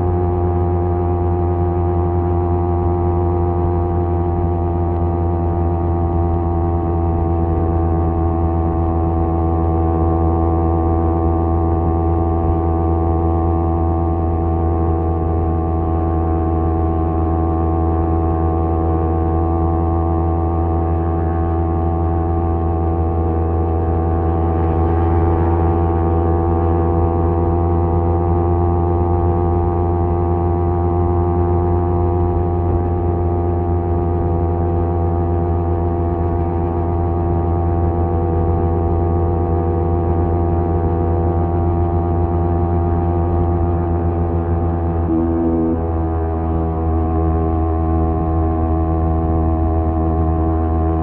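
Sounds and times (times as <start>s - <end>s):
motorcycle engine cruising: 0.0s - 51.0s.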